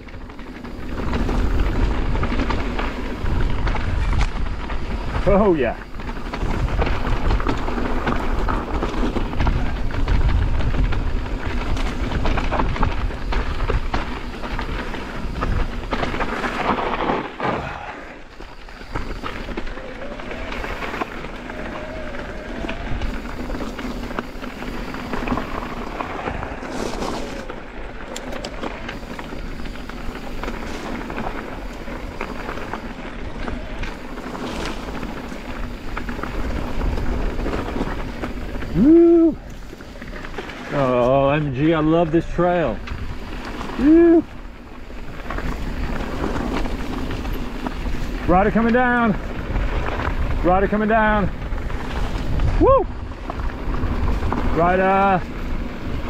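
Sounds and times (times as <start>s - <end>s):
bike rattling over bumps: 0.0s - 56.0s
tyres rolling over dirt trail: 0.0s - 56.0s
wind rushing over microphone: 0.0s - 56.0s.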